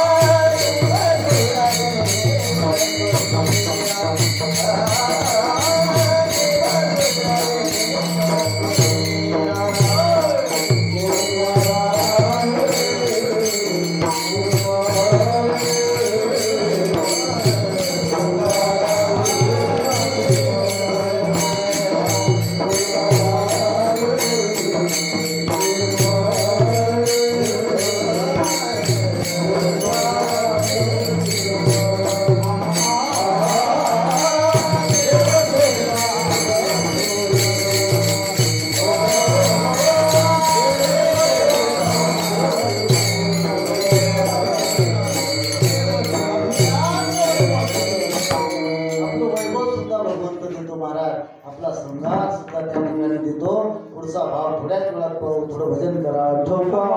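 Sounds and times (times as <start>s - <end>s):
pulsing drum: 0.0s - 49.8s
hand cymbals clinking: 0.0s - 50.2s.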